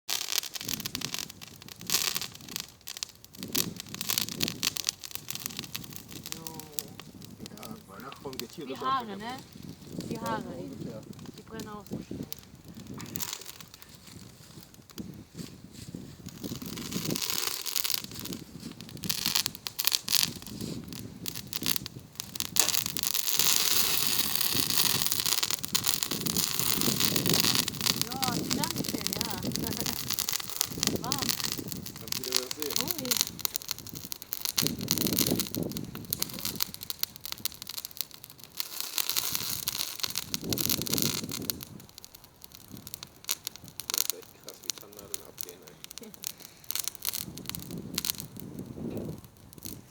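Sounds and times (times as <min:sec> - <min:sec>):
campfire crackling: 0:00.1 - 0:49.9
fire hiss: 0:00.1 - 0:49.9.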